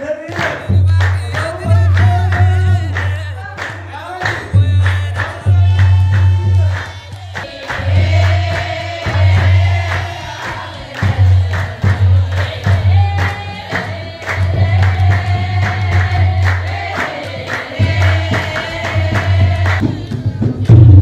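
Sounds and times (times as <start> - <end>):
rhythmic hand claps: 0.0 - 21.0
deep drum beat: 0.6 - 3.4, 4.3 - 21.0
women singing: 3.3 - 20.6.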